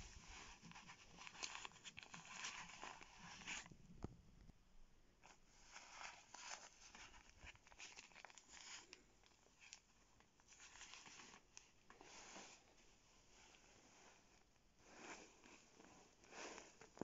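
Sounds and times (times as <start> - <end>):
jacket fabric rustling: 0.0 - 3.7, 5.2 - 17.0.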